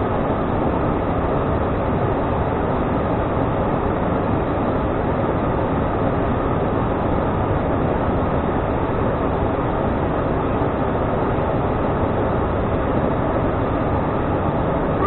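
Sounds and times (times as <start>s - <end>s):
turboprop cockpit noise: 0.0s - 15.0s.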